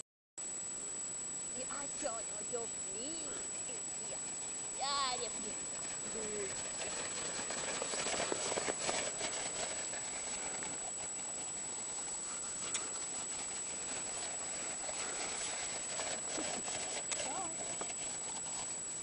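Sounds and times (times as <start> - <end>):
thin high whine: 0.4 - 19.0
steady hiss: 0.5 - 19.0
paws crunching in snow: 1.7 - 19.0.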